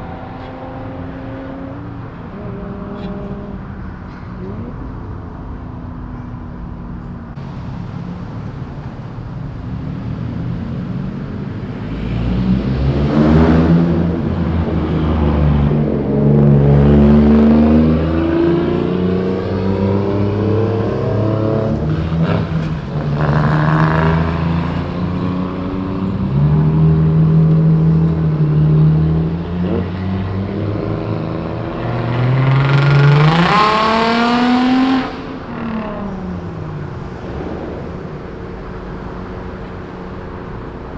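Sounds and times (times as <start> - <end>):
loud car exhaust rumble: 0.0 - 40.9.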